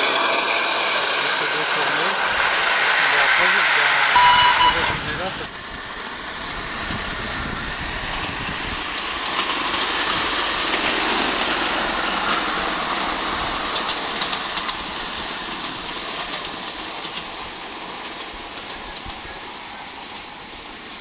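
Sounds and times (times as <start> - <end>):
miniature steam locomotive running: 0.0 - 21.0.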